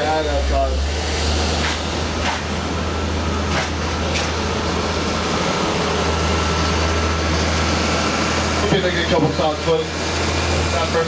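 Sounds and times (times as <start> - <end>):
tram engine hum: 0.0 - 11.0.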